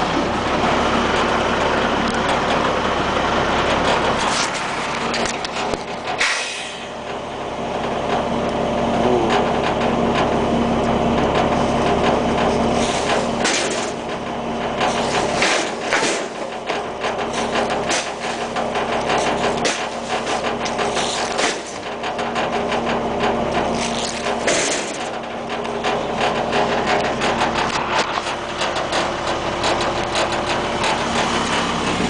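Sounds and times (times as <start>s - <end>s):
garbage truck diesel engine running: 0.0s - 32.0s.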